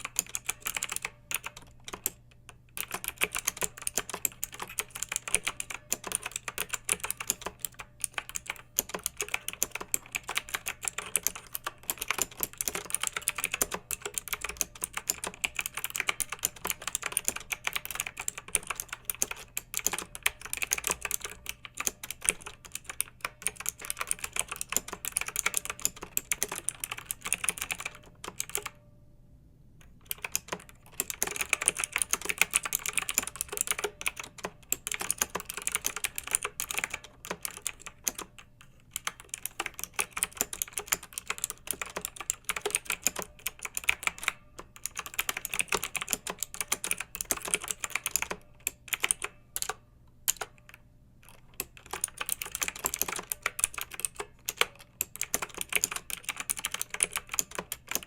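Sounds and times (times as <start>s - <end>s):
mechanical keyboard typing: 0.0s - 28.8s, 29.8s - 58.0s.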